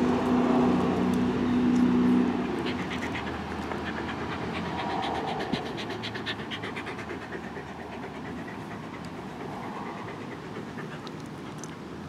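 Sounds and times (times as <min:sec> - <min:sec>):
dog panting: 0:02.3 - 0:12.0.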